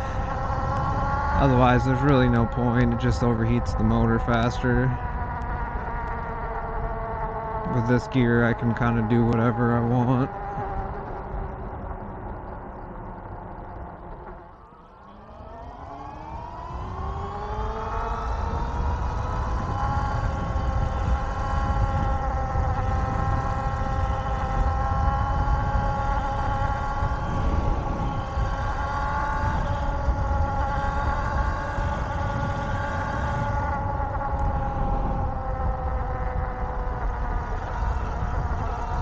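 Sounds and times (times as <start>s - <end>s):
electric bike motor whining: 0.0s - 39.0s
low rumble: 0.0s - 39.0s.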